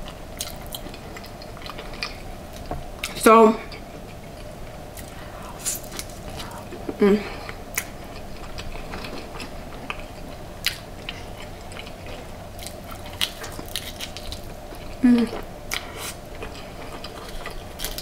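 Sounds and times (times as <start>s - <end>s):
crunching and chewing fried food: 0.0s - 18.0s.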